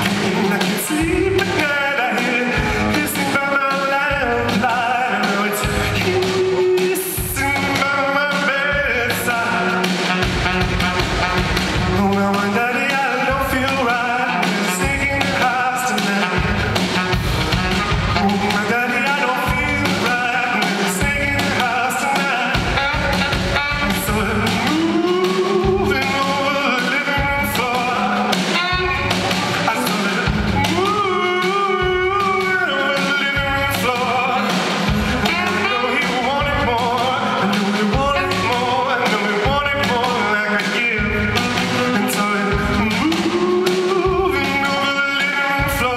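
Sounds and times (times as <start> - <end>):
person singing: 0.0 - 10.3, 11.8 - 17.1, 18.0 - 45.9
piano: 0.0 - 45.9
steady beat: 0.0 - 45.9.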